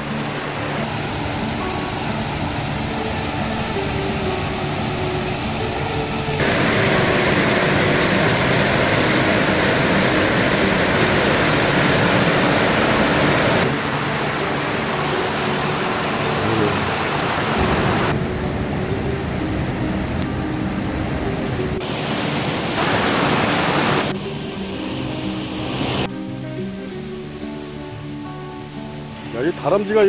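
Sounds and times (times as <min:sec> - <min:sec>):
stream rushing over rocks: 0:00.0 - 0:26.1.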